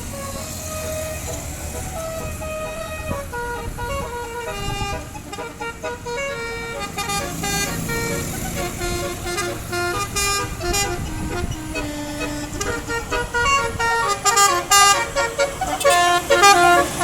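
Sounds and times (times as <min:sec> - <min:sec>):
multi-tone musical bus horn: 0:00.0 - 0:17.0.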